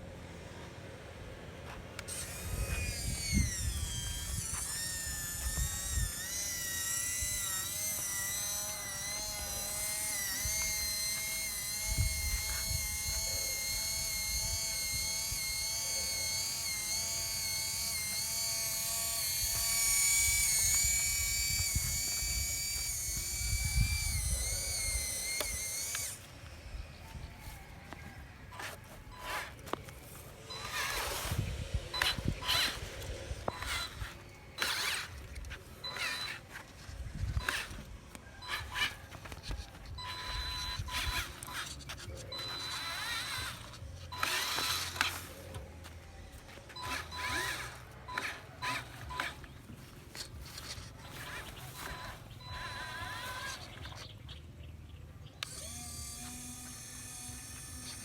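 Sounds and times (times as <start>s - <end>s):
small electric motors whining: 0.0s - 58.0s.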